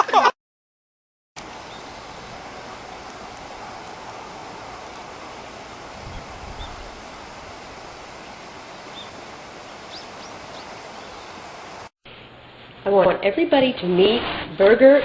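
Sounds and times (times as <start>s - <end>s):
steady hissing noise: 1.4s - 14.2s.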